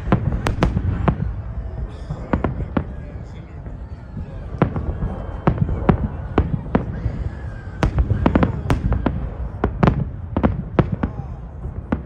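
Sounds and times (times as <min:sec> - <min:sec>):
fireworks bangs: 0:00.0 - 0:12.0
low rumble: 0:00.0 - 0:12.0.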